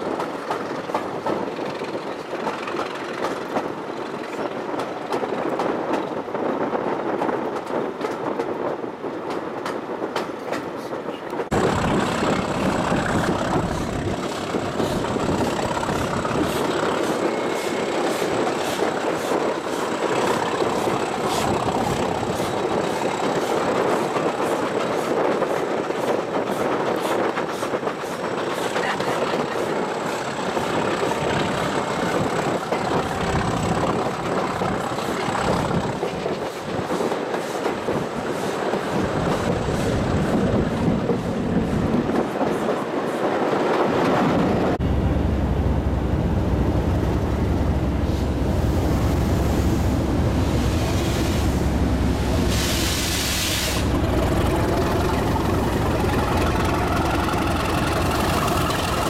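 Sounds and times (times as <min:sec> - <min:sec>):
wheels clicking on rails: 0:00.0 - 0:44.8, 0:50.2 - 0:59.0
train rumbling on rails: 0:00.0 - 0:59.0.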